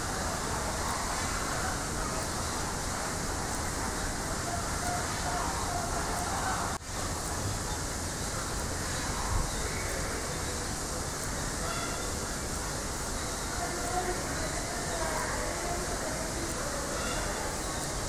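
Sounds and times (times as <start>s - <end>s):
faint indistinct voices: 0.0s - 18.0s
steady background noise: 0.0s - 18.0s.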